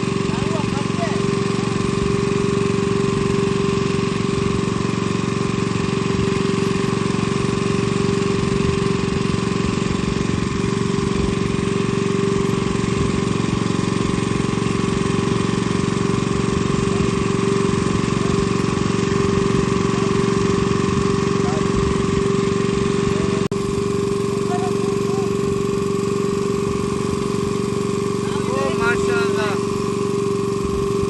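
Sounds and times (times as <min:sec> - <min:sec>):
engine humming steadily: 0:00.0 - 0:31.0.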